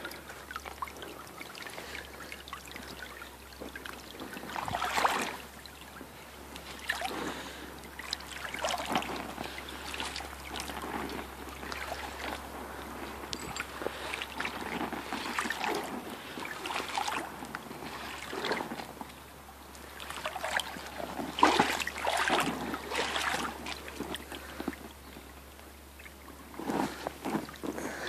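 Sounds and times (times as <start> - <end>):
boots wading through creek: 0.0 - 28.0.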